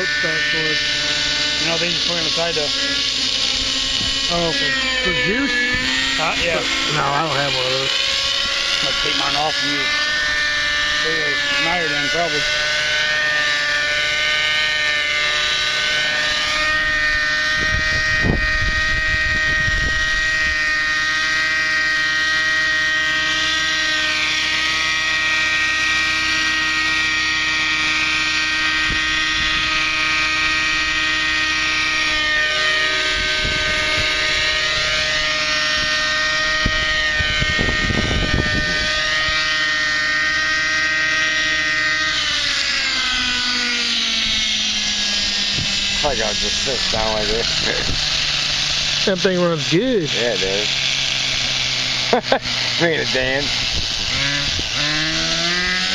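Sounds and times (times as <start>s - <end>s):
rc helicopter engine whine: 0.0s - 55.9s.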